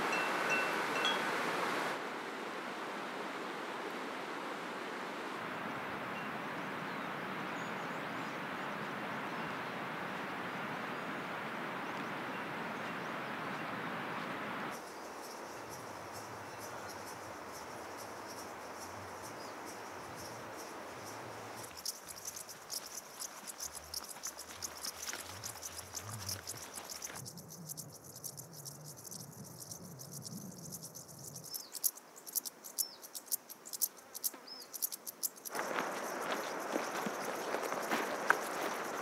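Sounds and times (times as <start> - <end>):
field insects chirping: 0.0 - 39.0.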